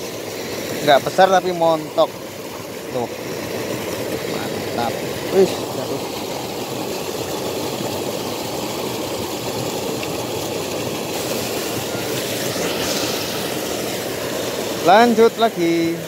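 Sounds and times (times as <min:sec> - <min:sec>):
water pouring over a weir: 0:00.0 - 0:16.0.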